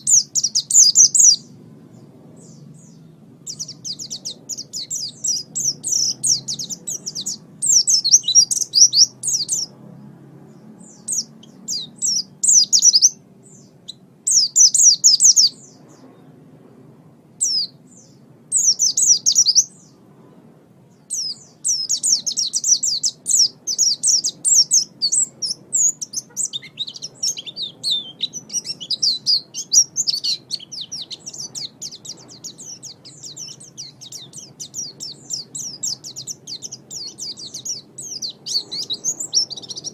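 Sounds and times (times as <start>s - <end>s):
bird twittering song: 0.0s - 9.8s, 10.5s - 16.4s, 17.4s - 20.0s, 20.9s - 39.9s.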